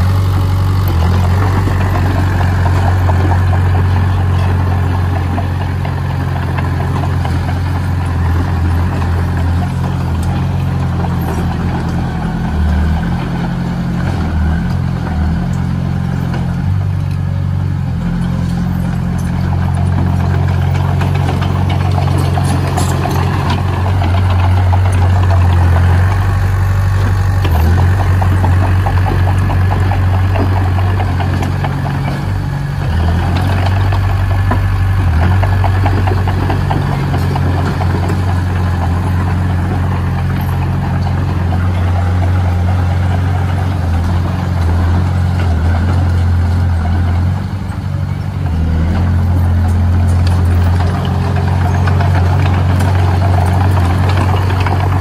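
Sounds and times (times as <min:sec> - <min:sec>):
heavy diesel machinery engine: 0:00.0 - 0:55.0.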